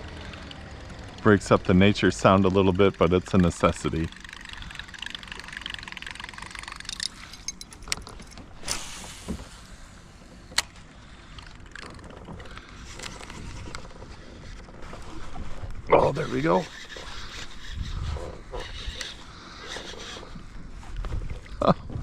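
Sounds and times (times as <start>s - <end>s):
lure churning water: 1.4s - 20.6s.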